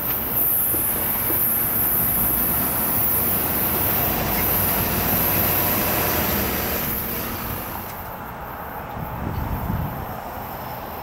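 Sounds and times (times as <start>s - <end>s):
cars and truck driving over crossing: 0.0s - 11.0s
train rumble: 0.0s - 11.0s.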